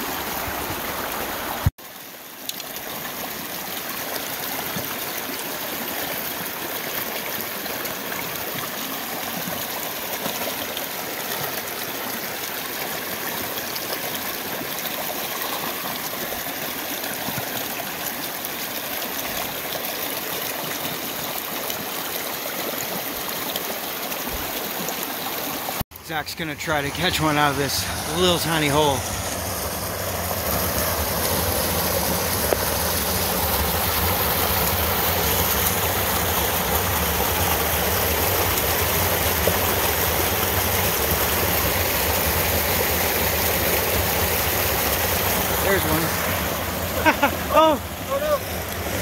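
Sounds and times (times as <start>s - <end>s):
creek running over rocks: 0.0s - 49.0s.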